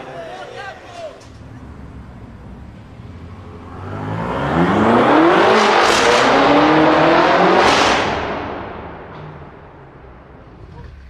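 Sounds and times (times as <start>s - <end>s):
car accelerating past: 1.3s - 11.0s.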